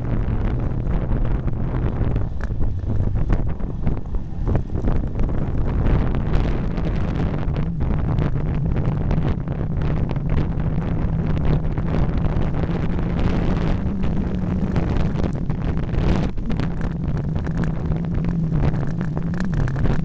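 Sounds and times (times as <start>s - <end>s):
low vehicle engine hum: 0.0s - 20.0s
wind buffeting microphone: 0.0s - 20.0s.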